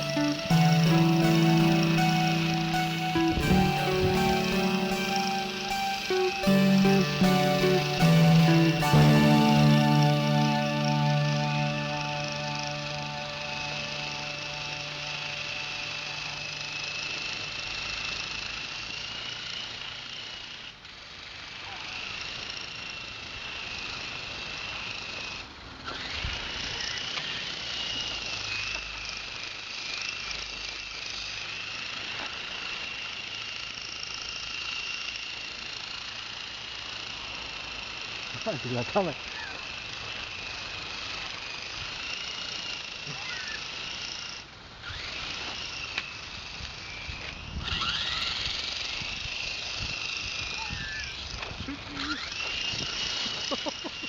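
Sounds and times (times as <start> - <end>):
rc helicopter motor whining: 7.7 - 54.0.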